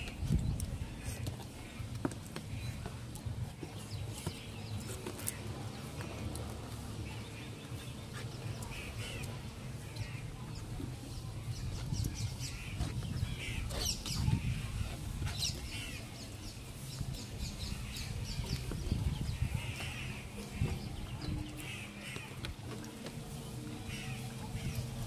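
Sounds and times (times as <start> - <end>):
people chewing and eating: 0.0 - 25.0.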